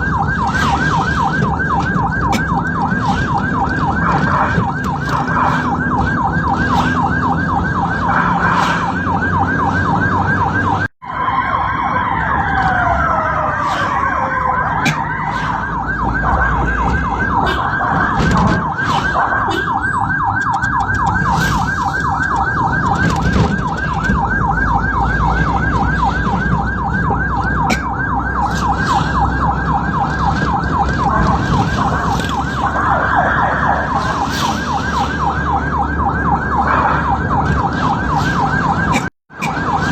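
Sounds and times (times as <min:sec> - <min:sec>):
ambulance siren yelping: 0:00.0 - 0:39.9
moving vehicle rumble: 0:00.0 - 0:39.9
slow falling siren tones: 0:00.0 - 0:39.9.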